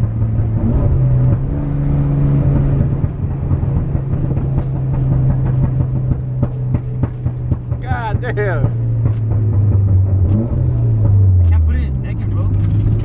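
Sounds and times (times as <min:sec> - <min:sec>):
sports car engine cruising: 0:00.0 - 0:13.0.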